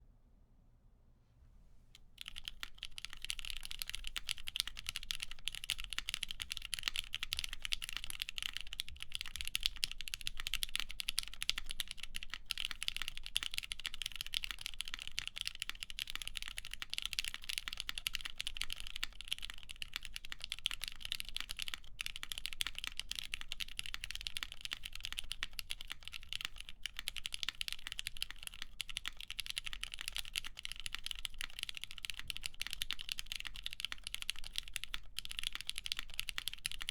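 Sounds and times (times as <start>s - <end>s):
mechanical keyboard typing: 2.2s - 36.9s.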